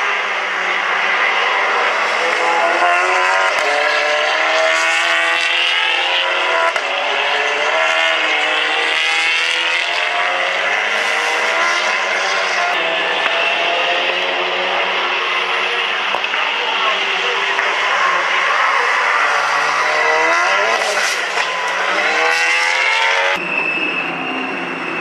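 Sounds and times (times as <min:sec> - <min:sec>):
racing car engines: 0:00.0 - 0:25.0.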